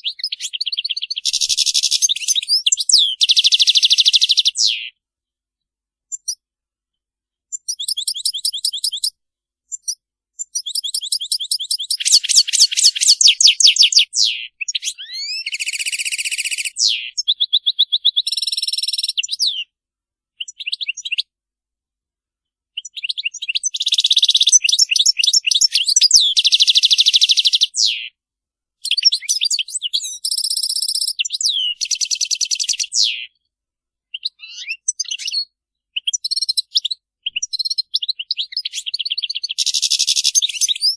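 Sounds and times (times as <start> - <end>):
goldfinch twittering song: 0.0 - 5.0, 7.5 - 9.1, 9.7 - 19.7, 22.8 - 28.2, 28.8 - 33.5, 34.1 - 40.9.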